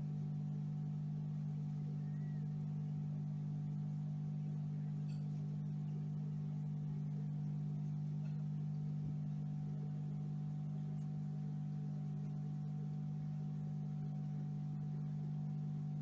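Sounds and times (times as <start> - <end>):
steady low droning tone: 0.0 - 16.0.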